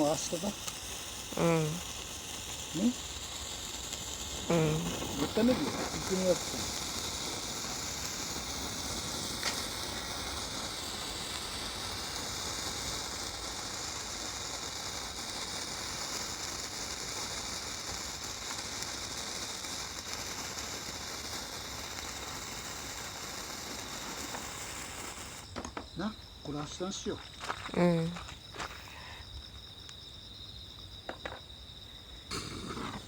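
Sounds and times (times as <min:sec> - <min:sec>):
high-pitched hissing: 0:00.0 - 0:33.0.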